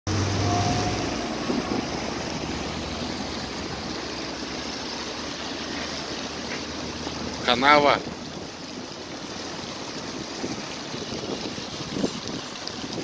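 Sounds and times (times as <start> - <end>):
fountain spray splashing into water: 0.1 - 13.0.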